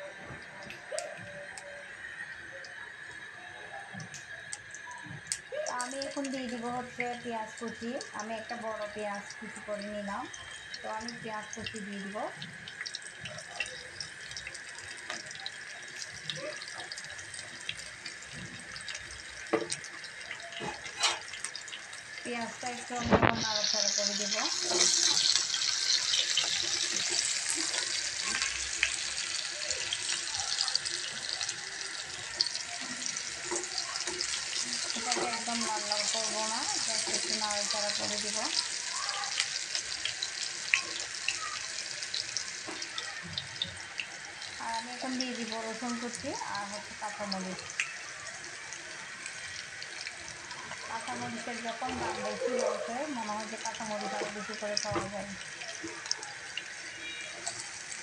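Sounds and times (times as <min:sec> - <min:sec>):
onions sizzling in hot oil: 0:00.0 - 0:58.0.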